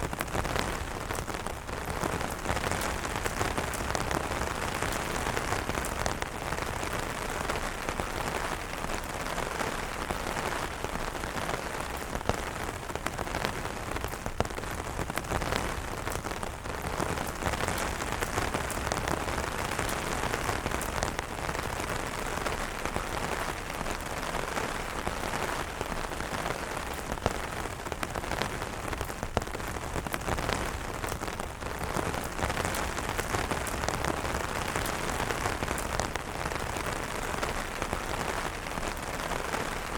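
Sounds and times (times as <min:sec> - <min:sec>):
rain falling on umbrellas: 0:00.0 - 0:39.9.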